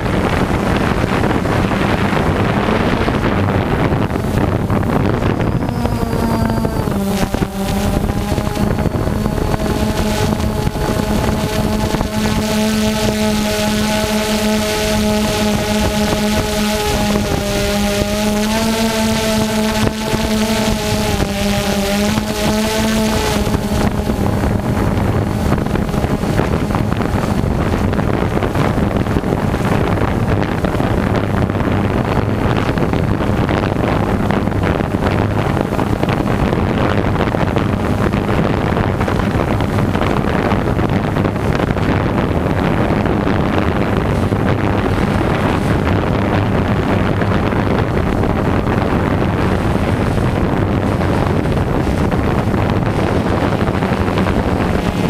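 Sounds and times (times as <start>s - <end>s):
drone propellers buzzing: 0.0s - 55.0s
wind buffeting microphone: 0.0s - 55.0s.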